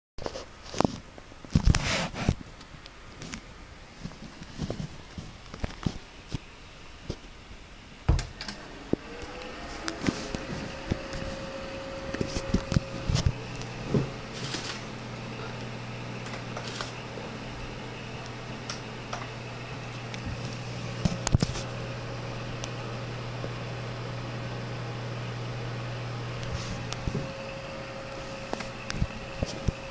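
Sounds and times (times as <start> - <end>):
computer fan hum: 0.4 - 29.9.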